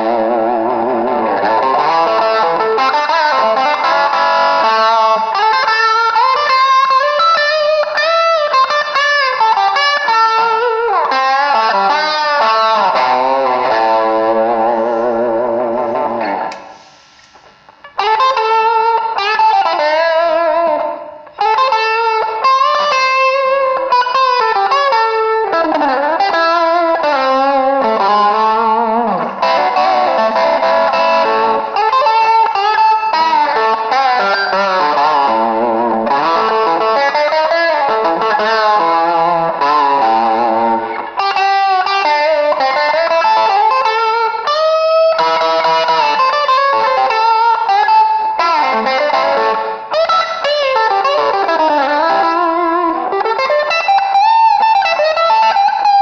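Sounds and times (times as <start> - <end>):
overdriven electric guitar melody: 0.0 - 56.0.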